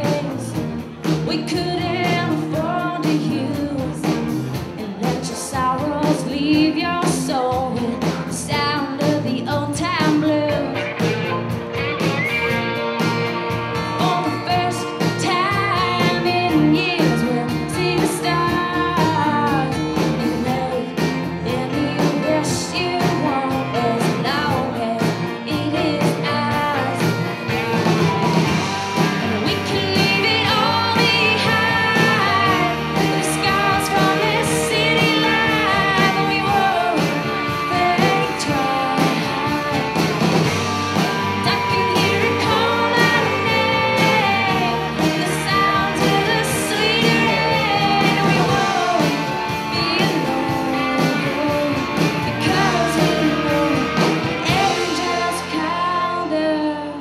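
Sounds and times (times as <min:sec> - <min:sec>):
woman singing: 0:00.0 - 0:11.0, 0:13.8 - 0:27.8, 0:29.0 - 0:57.0
drum kit: 0:00.0 - 0:57.0
acoustic guitars: 0:09.5 - 0:56.6.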